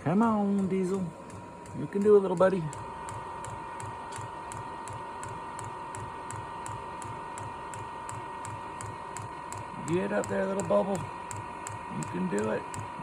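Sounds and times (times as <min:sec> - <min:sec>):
heater humming: 0:00.0 - 0:13.0
fuel pump ticking: 0:00.2 - 0:13.0.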